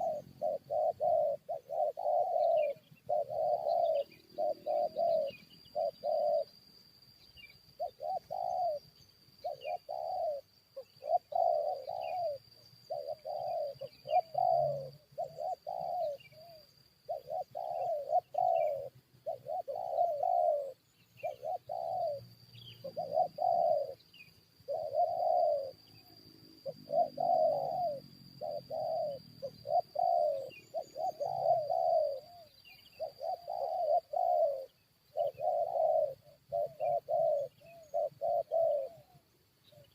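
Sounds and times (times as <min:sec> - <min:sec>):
doves cooing: 0:00.0 - 0:06.6, 0:07.8 - 0:39.9
small birds chirping: 0:00.0 - 0:39.9.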